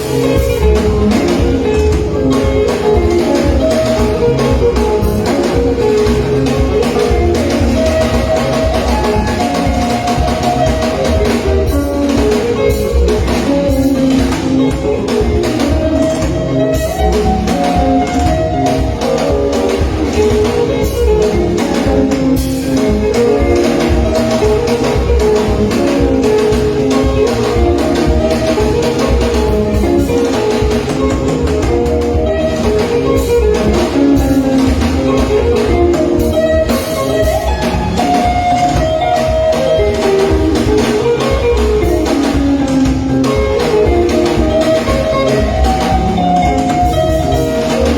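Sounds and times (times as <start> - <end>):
drum kit: 0.0 - 47.9
interlocking guitar lines: 0.0 - 47.9
pulsing bass: 0.0 - 47.9.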